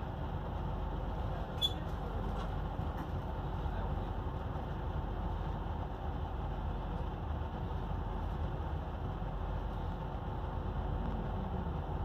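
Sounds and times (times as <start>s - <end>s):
freight train rolling on rails: 0.0s - 12.0s.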